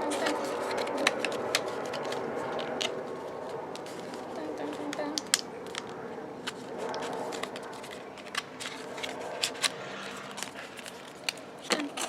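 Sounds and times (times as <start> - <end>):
faint background hum: 0.0 - 12.0
plastic packaging clicks and crinkles: 0.0 - 12.0.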